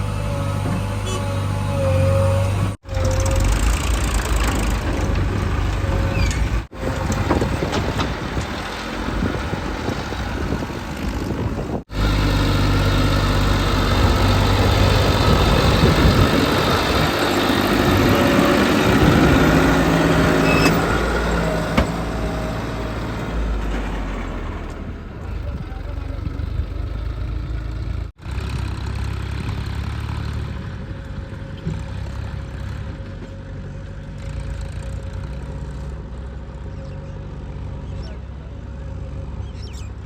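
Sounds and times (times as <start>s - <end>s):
heavy diesel machinery running: 0.0s - 40.0s.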